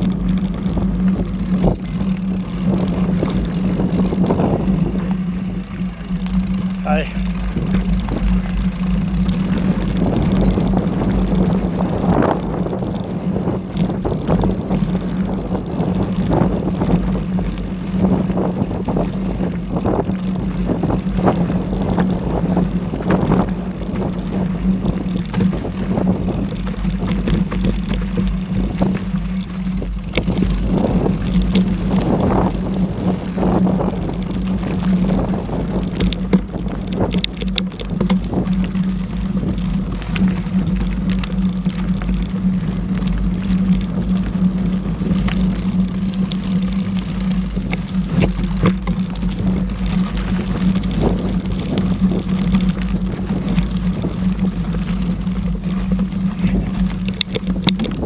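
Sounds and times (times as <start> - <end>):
bike rattles and knocks: 0.0 - 58.0
bike rolling on dirt trail: 0.0 - 58.0.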